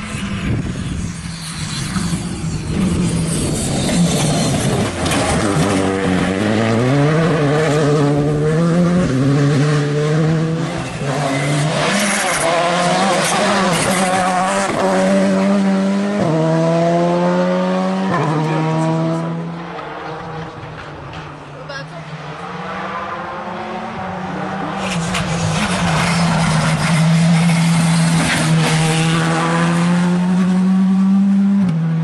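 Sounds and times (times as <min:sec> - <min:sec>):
rally car engine accelerating: 0:00.0 - 0:21.3, 0:22.1 - 0:32.0.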